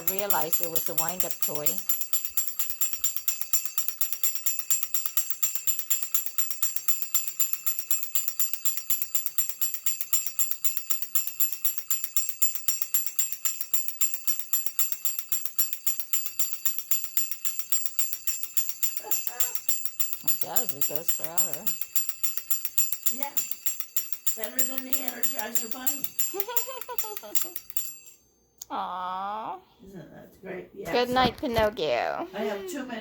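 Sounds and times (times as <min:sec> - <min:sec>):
clockwork spring ticking: 0:00.0 - 0:28.7.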